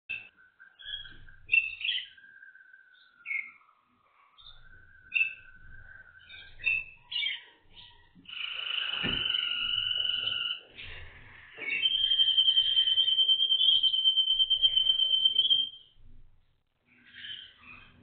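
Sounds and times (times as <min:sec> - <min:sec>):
canary singing long low note: 0:00.1 - 0:16.1.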